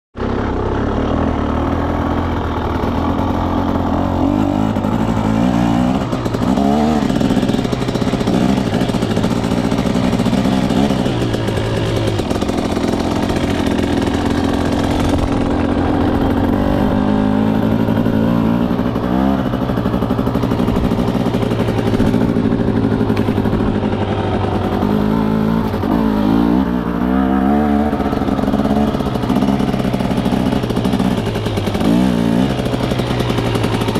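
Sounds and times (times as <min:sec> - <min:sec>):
dirt bike engine revving: 0:00.2 - 0:33.9.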